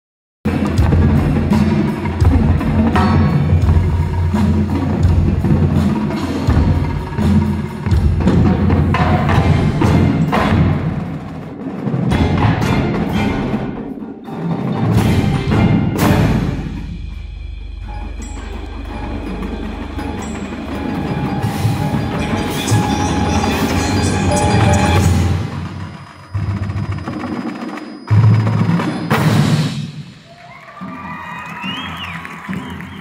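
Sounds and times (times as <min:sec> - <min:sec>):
drums: 0:00.4 - 0:33.0
marimbas: 0:00.7 - 0:29.6.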